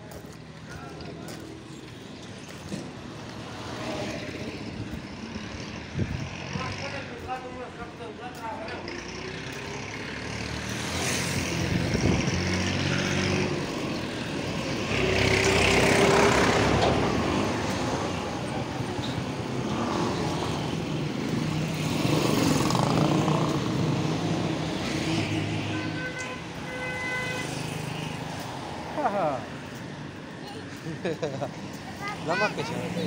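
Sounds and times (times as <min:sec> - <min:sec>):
vehicles driving past: 0:00.0 - 0:33.0.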